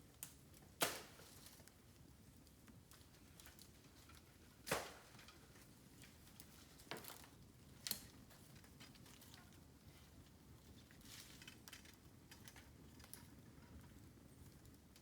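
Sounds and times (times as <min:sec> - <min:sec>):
bamboo crackling in a campfire: 0:00.0 - 0:15.0.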